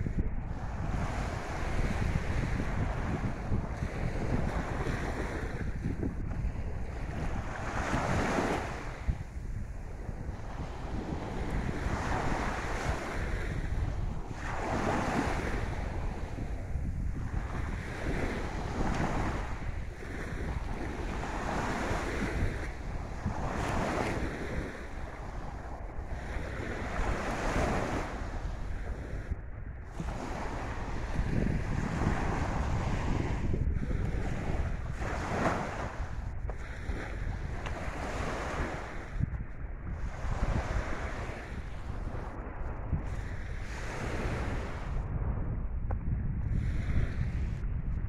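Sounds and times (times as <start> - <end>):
sea waves washing on sand: 0.0 - 45.2
wind rumbling on microphone: 0.0 - 48.0.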